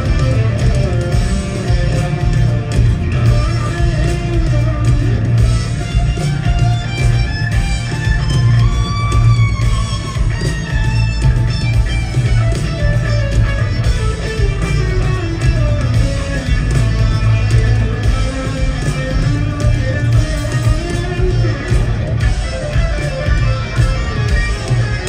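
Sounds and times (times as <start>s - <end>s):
electric guitar bending notes: 0.0s - 25.0s
heavy bass: 0.0s - 25.0s.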